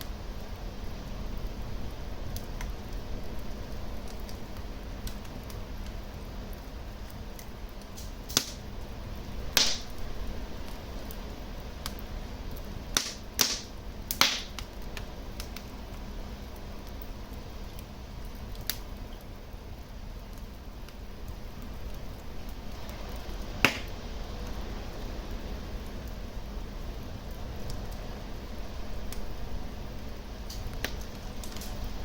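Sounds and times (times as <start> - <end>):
burning logs popping: 0.0 - 32.0
fire burning in fireplace: 0.0 - 32.0.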